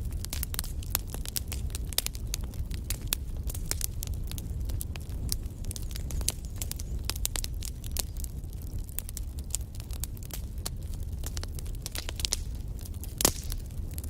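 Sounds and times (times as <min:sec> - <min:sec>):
fire crackling: 0:00.0 - 0:14.0
low rumble of flames: 0:00.0 - 0:14.0
pops and snaps from burning logs: 0:00.0 - 0:14.0.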